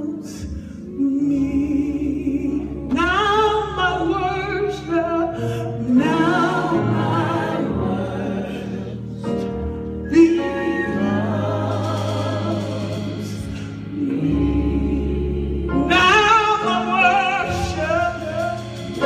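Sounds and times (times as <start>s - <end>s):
held keyboard chords: 0.0s - 19.0s.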